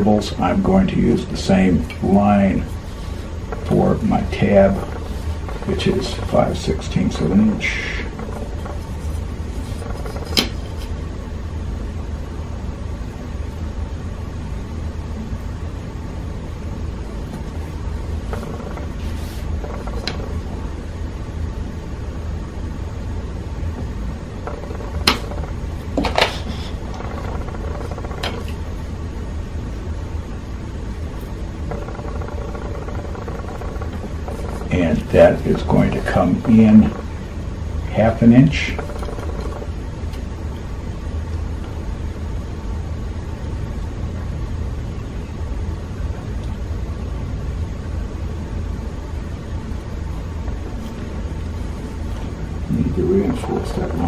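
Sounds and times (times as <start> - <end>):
low room hum: 0.0 - 54.0.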